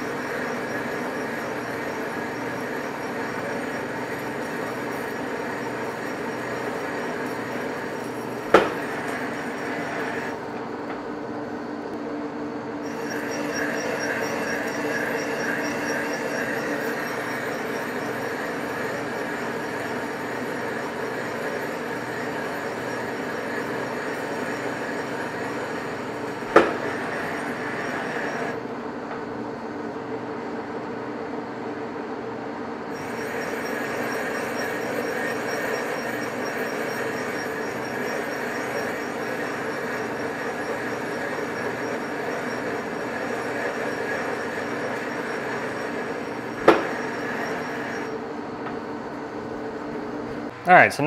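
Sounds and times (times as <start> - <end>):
lathe cutting metal: 0.0 - 10.4, 12.8 - 28.6, 32.9 - 48.2.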